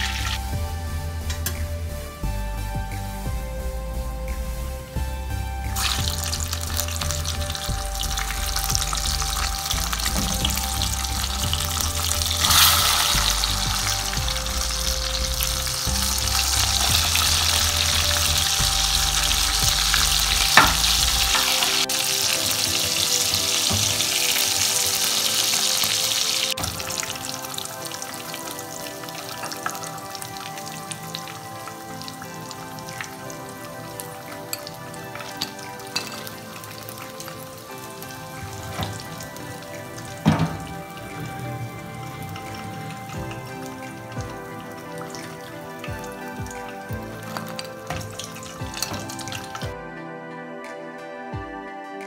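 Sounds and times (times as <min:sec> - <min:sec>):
chicken sizzling in hot oil: 0:00.0 - 0:00.6, 0:05.7 - 0:49.7.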